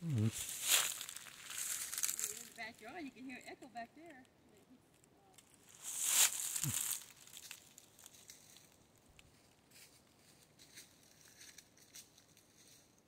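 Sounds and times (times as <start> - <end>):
dry leaves crackling underfoot: 0.0 - 3.0, 5.4 - 13.0.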